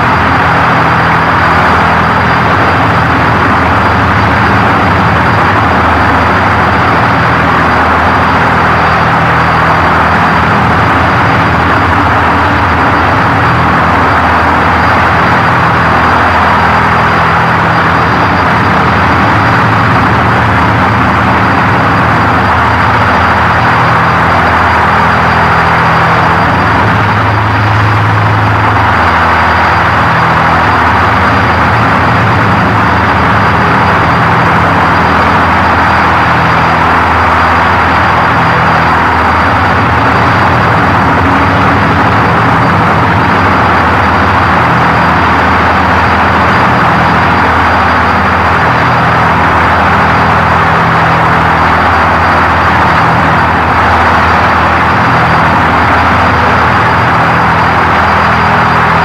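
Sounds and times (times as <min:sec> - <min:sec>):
harsh static: 0:00.0 - 0:59.0
low droning tones: 0:00.0 - 0:59.0
thin high whine: 0:00.0 - 0:59.0.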